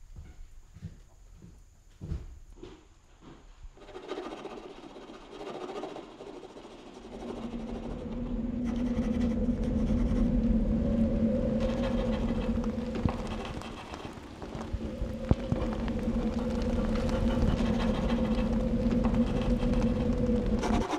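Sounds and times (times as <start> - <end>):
low hum with held tones: 0.0 - 20.9
soft scratchy rustle: 3.4 - 20.9.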